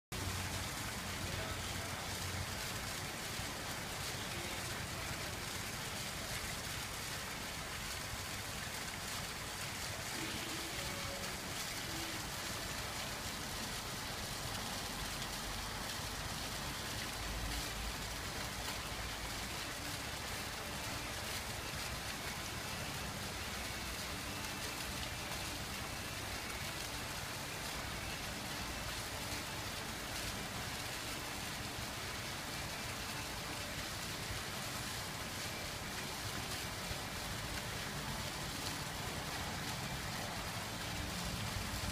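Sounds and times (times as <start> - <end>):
fountain water splashing on stone: 0.1 - 41.9.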